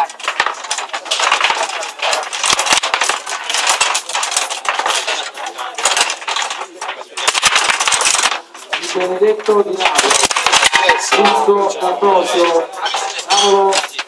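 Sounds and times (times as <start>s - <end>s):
table football clatter: 0.0s - 14.0s.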